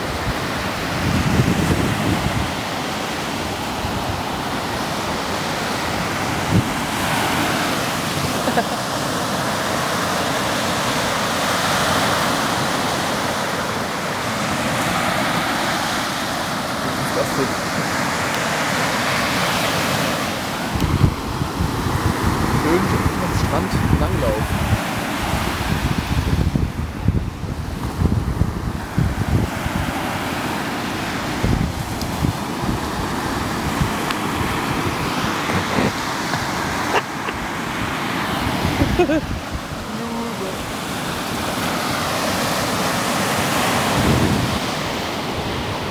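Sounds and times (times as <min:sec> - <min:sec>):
surf breaking on beach: 0:00.0 - 0:45.9
wind gusting on microphone: 0:00.0 - 0:45.9.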